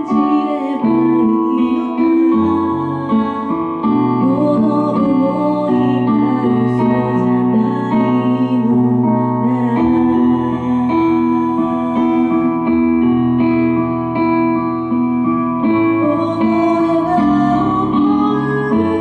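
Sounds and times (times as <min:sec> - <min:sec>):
woman singing slow song: 0:00.0 - 0:13.6, 0:15.6 - 0:19.0
instrumental backing chords: 0:00.0 - 0:19.0.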